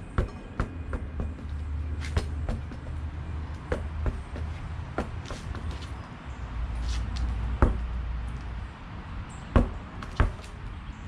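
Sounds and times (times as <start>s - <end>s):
tire bouncing on ground: 0.0s - 6.0s, 6.8s - 8.5s, 9.5s - 10.6s.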